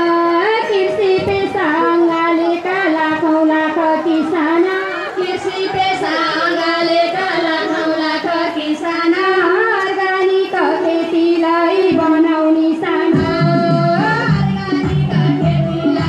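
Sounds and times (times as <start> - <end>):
low rhythmic accompaniment: 0.0 - 16.0
women singing: 0.0 - 16.0.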